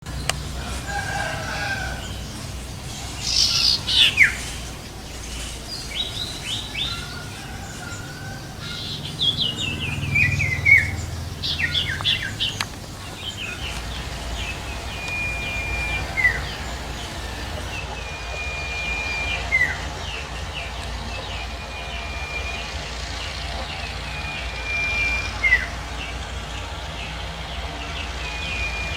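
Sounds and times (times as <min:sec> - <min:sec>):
bird singing chirps and whistles: 0:00.1 - 0:28.9.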